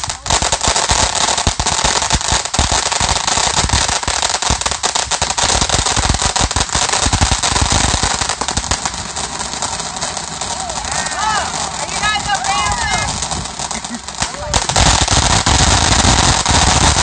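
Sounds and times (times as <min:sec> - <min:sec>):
fireworks crackling bangs: 0:00.0 - 0:17.0.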